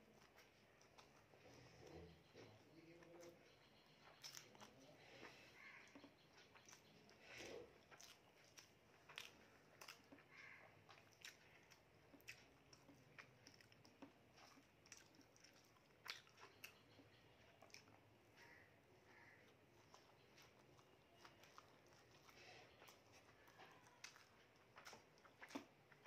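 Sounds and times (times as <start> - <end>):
person chewing quietly: 0.0 - 26.0.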